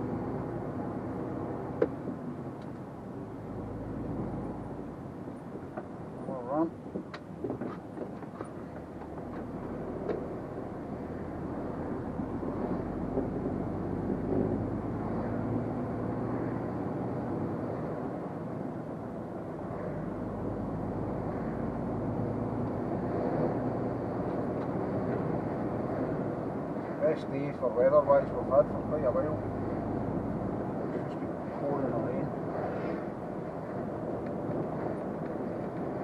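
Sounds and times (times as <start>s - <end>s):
road noise: 0.0s - 36.0s
truck engine rumble: 0.0s - 36.0s.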